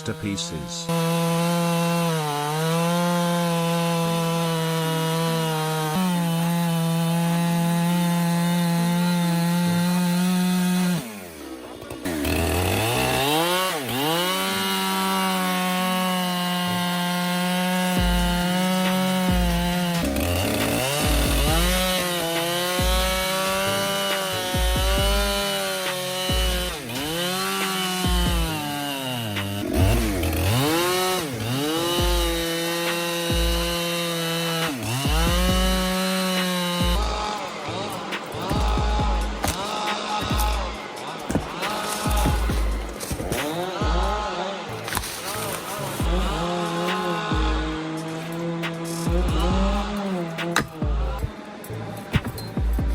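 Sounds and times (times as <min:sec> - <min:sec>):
chainsaw running at high revs: 0:00.0 - 0:52.9.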